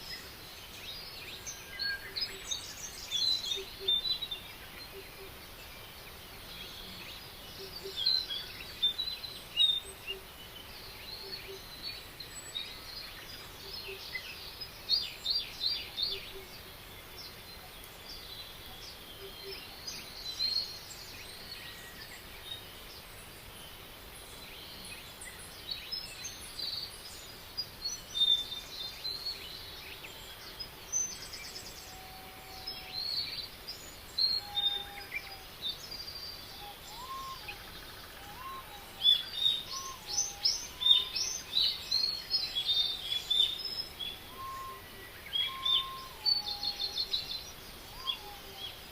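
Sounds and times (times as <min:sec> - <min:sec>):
birds singing and chirping: 0:00.0 - 0:48.9
steady background hiss: 0:00.0 - 0:48.9.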